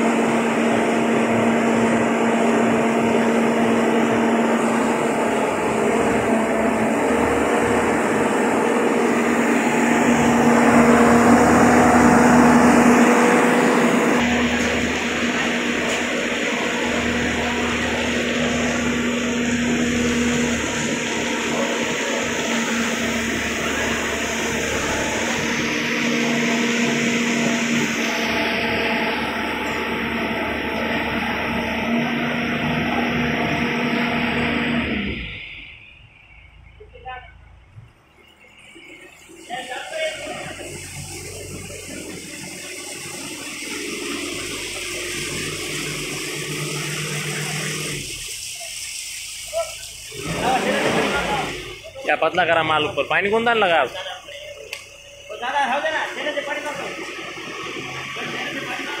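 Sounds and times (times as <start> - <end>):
wet concrete pouring down chute: 0.0 - 35.1, 38.4 - 59.0
motor drone: 0.0 - 36.8, 37.7 - 52.0, 53.0 - 59.0
mixer engine running low: 0.0 - 59.0.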